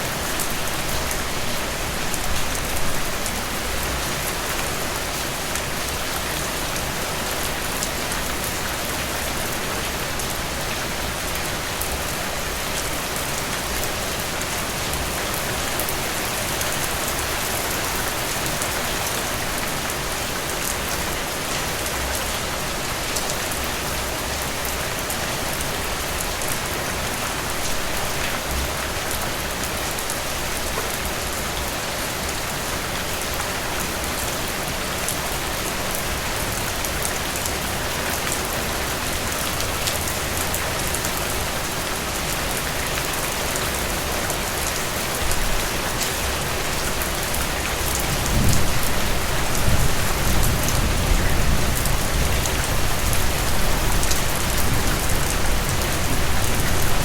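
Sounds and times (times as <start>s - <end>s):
louder raindrops: 0.0s - 57.0s
rain falling: 0.0s - 57.0s.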